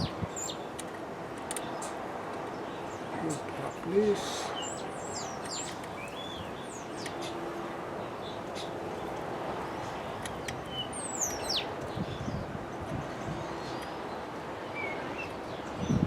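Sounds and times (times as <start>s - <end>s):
birds chirping: 0.0s - 16.0s
outdoor background hiss: 0.0s - 16.0s.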